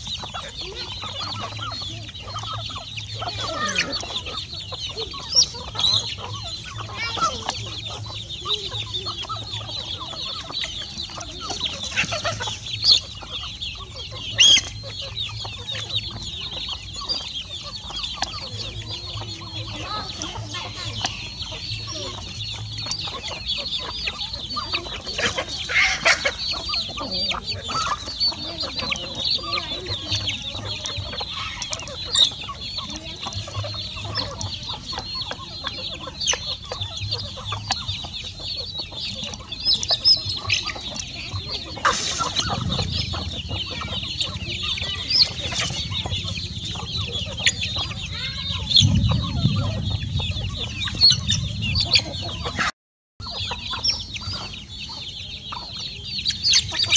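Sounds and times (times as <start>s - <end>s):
young chickens cheeping and clucking: 0.0s - 56.9s.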